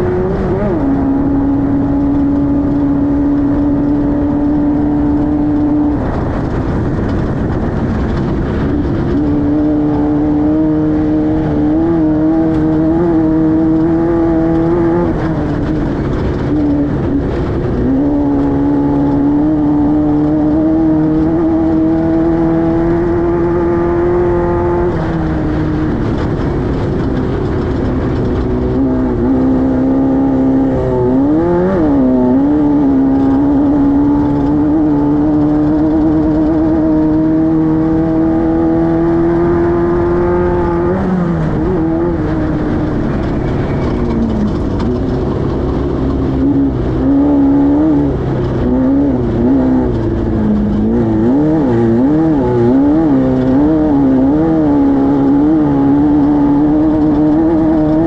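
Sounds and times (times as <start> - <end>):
constant rushing noise: 0.0 - 58.0
race car engine running hard: 0.0 - 58.0.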